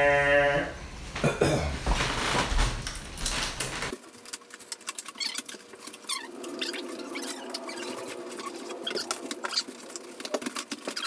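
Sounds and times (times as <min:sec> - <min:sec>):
packing material rustling and crinkling: 0:01.8 - 0:11.0.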